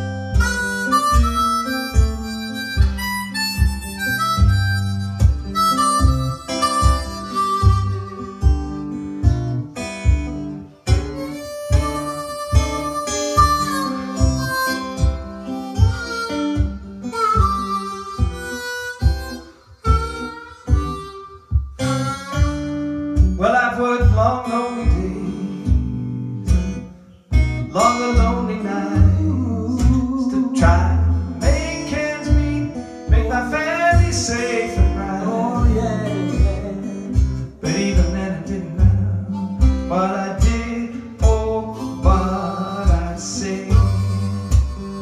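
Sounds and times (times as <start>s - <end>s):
harmonica melody: 0.0s - 25.7s, 30.8s - 45.0s
acoustic guitar: 0.0s - 45.0s.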